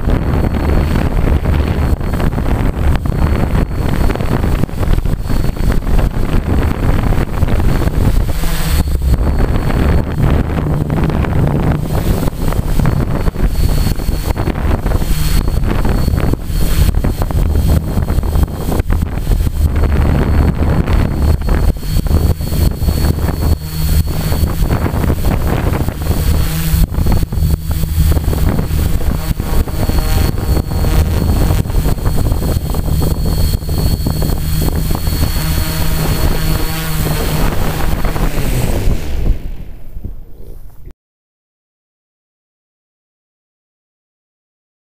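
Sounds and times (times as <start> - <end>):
drone motors and propellers: 0.0 - 40.9
high motor whine: 0.0 - 40.9
wind buffeting microphone: 0.0 - 40.9.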